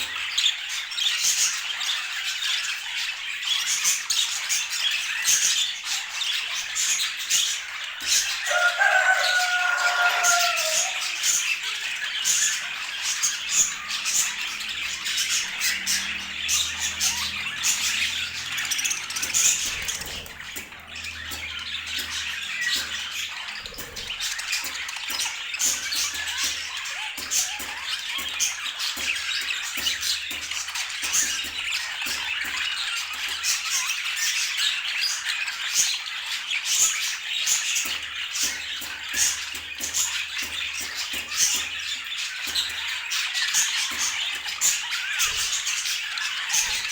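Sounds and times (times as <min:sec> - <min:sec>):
budgerigars chattering: 0:00.0 - 0:46.9.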